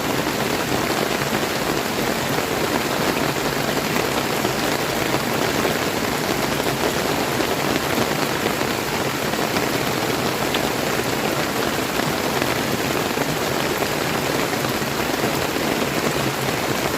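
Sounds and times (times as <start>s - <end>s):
river water running: 0.0s - 16.9s
steady rain falling: 0.0s - 16.9s.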